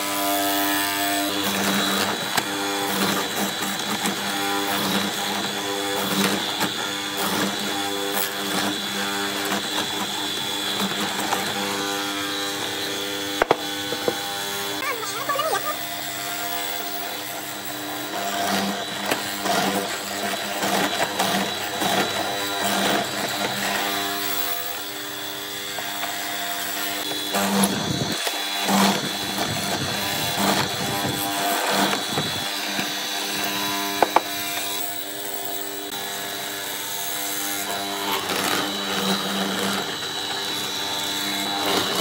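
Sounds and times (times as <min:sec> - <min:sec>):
power tool motor whine: 0:00.0 - 0:42.0.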